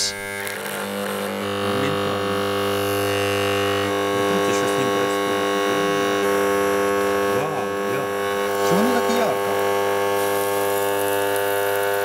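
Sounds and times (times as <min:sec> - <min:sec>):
transformer humming loudly: 0:00.0 - 0:12.0.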